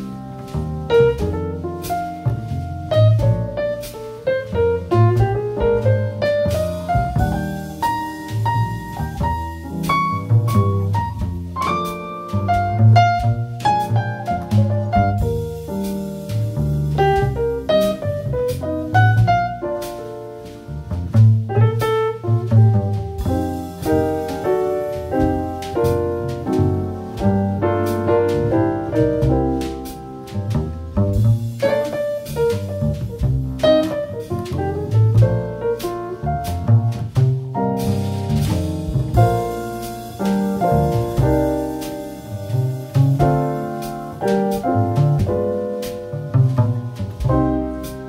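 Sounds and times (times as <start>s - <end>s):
bass line: 0.0s - 48.0s
jazz piano chords: 0.0s - 48.0s.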